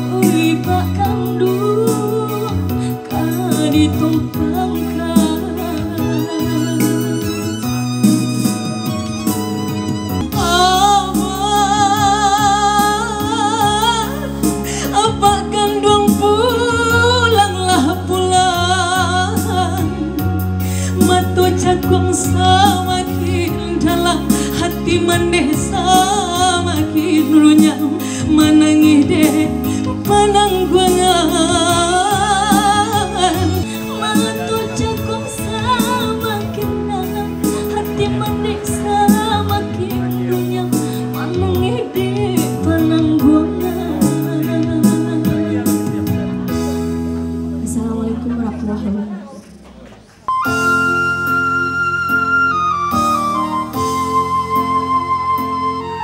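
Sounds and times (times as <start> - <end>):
woman singing into a microphone: 0.0 - 46.9, 47.5 - 49.3, 50.5 - 56.0
amplified instrumental accompaniment: 0.0 - 48.8, 50.1 - 56.0.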